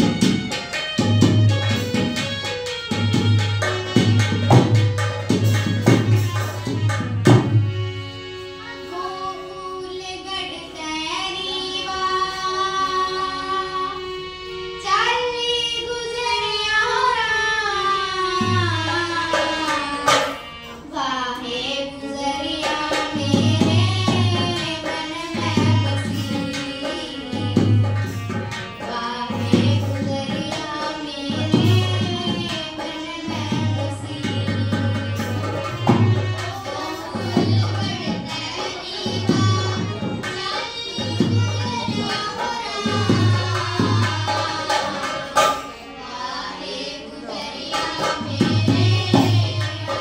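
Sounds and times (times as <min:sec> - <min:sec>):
girl singing into a microphone: 0:08.4 - 0:50.0.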